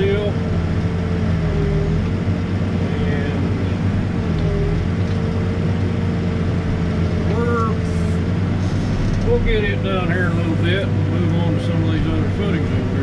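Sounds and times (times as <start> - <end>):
backhoe diesel engine running: 0.0 - 13.0.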